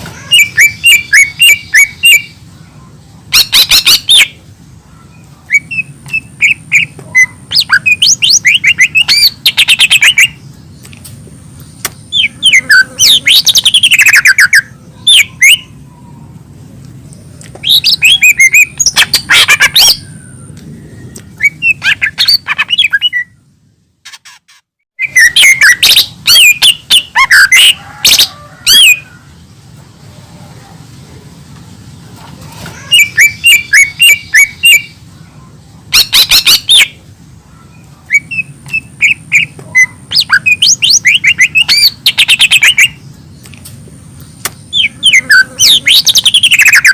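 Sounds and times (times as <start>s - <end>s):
bird singing chirps and trills: 0.0s - 24.3s, 25.0s - 29.6s, 31.9s - 46.9s.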